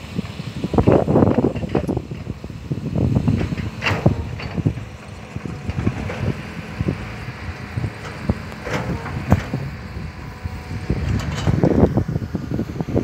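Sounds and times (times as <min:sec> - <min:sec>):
distant dump truck driving: 0:00.0 - 0:13.0
wind buffeting microphone: 0:00.0 - 0:13.0.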